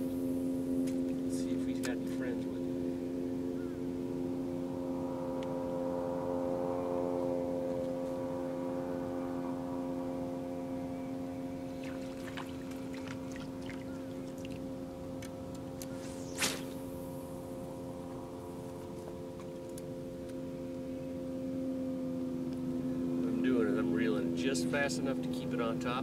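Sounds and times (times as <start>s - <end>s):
boat motor hum: 0.0s - 26.0s.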